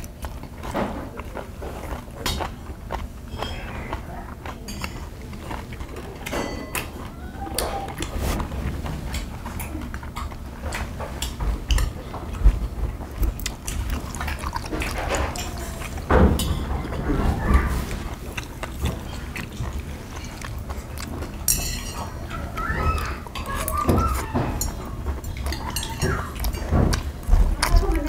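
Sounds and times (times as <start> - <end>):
people chewing food: 0.0 - 28.0.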